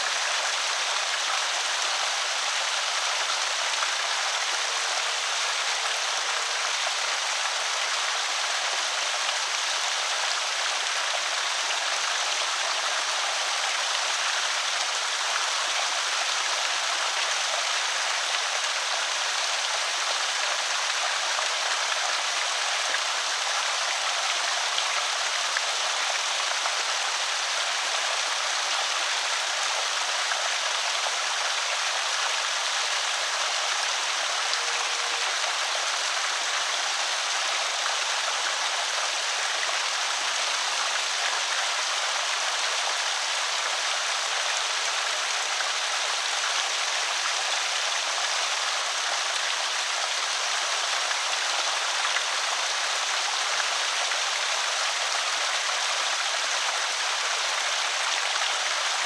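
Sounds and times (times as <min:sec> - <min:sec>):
water rushing over spillway: 0:00.0 - 0:59.0.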